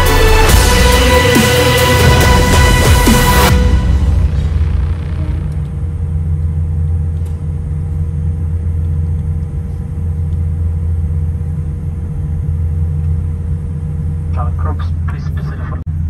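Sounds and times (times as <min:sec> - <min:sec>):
airliner cabin rumble: 0:02.1 - 0:16.0.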